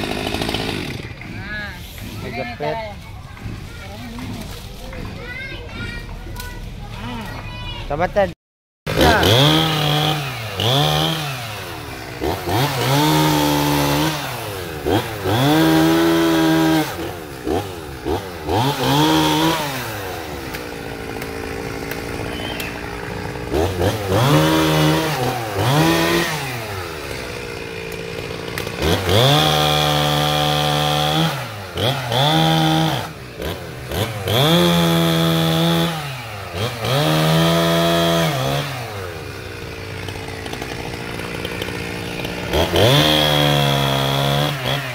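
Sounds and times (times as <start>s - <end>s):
chainsaw revving and idling: 0.0s - 8.3s, 8.9s - 44.9s.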